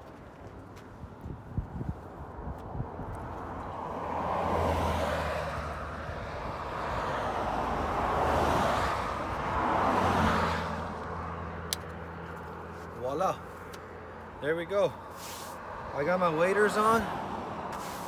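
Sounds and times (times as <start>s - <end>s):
low steady traffic rumble: 0.0s - 18.0s
vehicles whooshing past: 0.0s - 18.0s.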